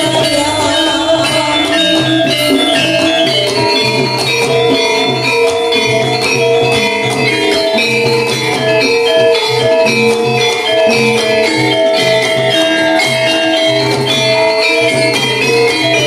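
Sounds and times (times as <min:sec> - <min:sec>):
gamelan ensemble playing: 0:00.0 - 0:16.0.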